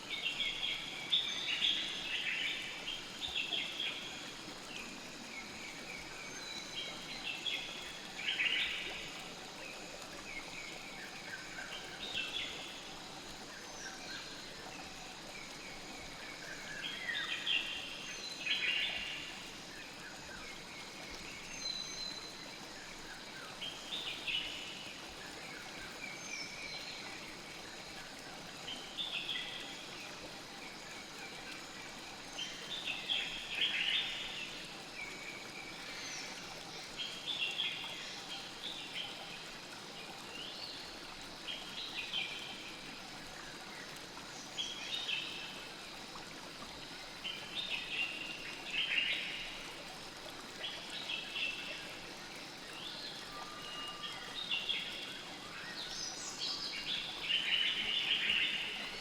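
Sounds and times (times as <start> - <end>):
faint insect trill: 0.0 - 59.0
flowing river water: 0.0 - 59.0.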